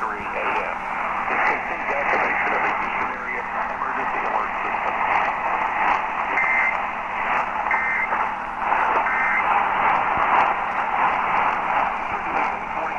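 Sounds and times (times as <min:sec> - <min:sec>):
radio static hiss: 0:00.0 - 0:12.9
warbling data bursts: 0:00.2 - 0:12.9.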